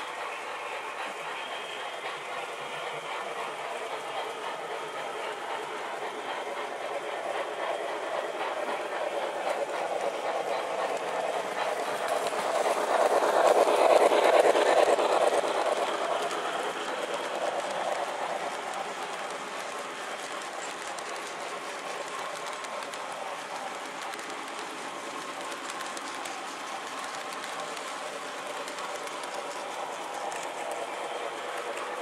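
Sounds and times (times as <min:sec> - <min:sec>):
model train rumbling: 0:00.0 - 0:32.0
wheels clicking on rails: 0:00.0 - 0:32.0.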